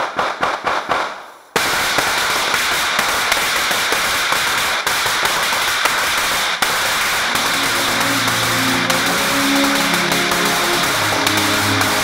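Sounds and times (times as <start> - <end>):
firecracker bangs: 0.0 - 12.0
firecracker string crackling: 0.0 - 12.0.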